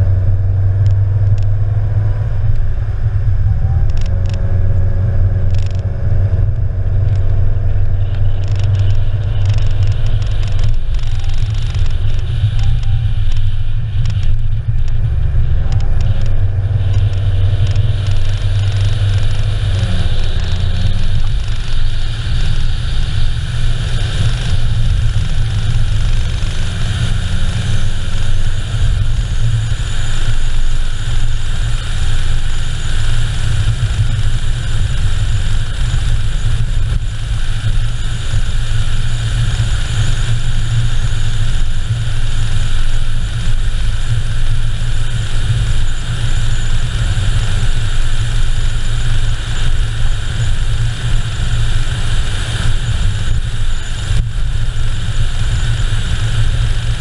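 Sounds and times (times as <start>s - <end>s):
car engine hum: 0.0s - 57.0s
road and wind noise: 0.0s - 57.0s.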